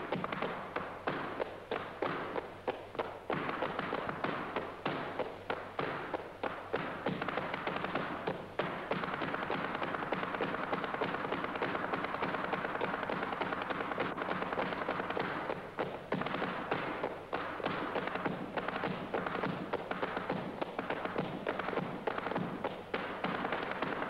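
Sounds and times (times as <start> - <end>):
heeled shoes stamping on stage floor: 0.0 - 24.0.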